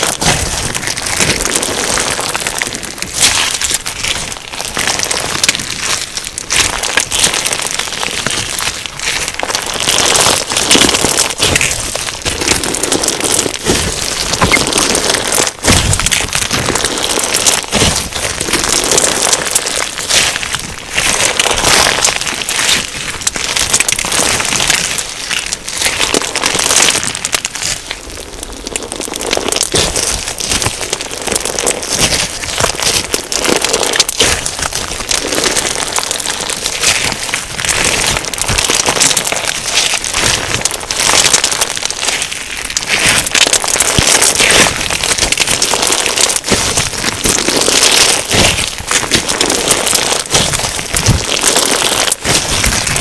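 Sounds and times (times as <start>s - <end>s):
crunchy slime crackling: 0.0s - 53.0s.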